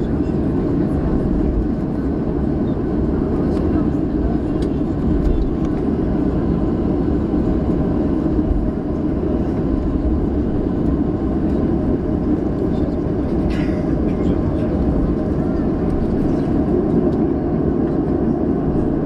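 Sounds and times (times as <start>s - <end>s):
jet engines low rumble in cabin: 0.0s - 19.0s.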